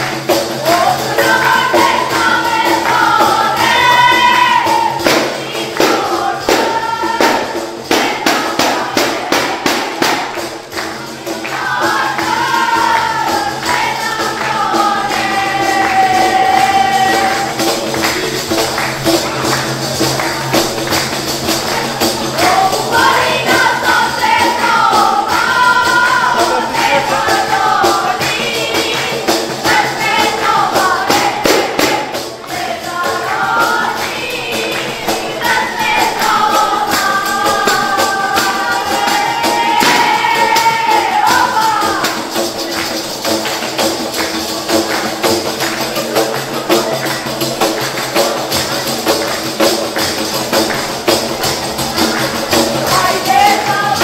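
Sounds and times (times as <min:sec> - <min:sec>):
women singing: 0:00.0 - 0:18.2, 0:18.8 - 0:42.9, 0:51.1 - 0:54.0
frame drums with jingles: 0:00.0 - 0:54.0.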